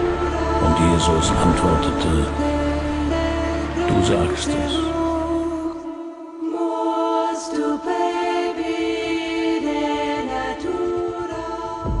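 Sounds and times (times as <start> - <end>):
choir singing slow chords: 0.0 - 12.0.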